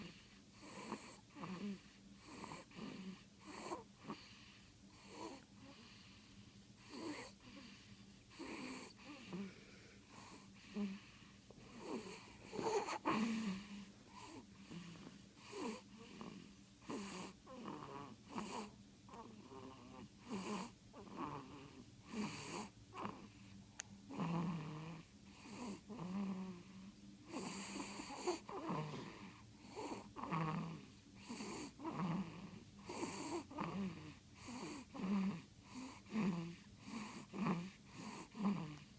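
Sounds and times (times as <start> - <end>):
baby snoring: 0.0 - 23.5, 24.1 - 38.9.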